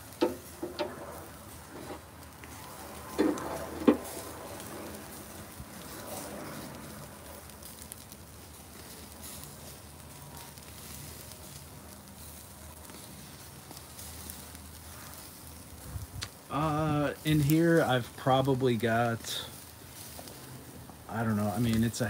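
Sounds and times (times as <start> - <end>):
charcoal crackles and pops: 0.0 - 22.0
meat sizzling on a grill: 0.0 - 22.0.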